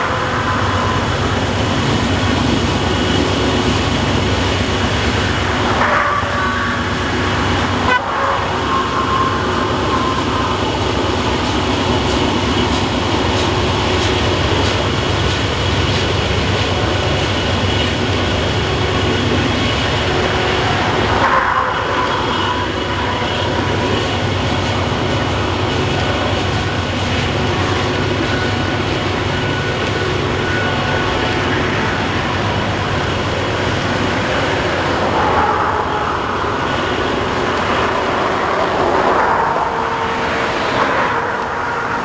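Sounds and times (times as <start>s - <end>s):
high wheel squeals: 0.0s - 14.6s, 17.0s - 42.0s
freight train rumbling past: 0.0s - 42.0s.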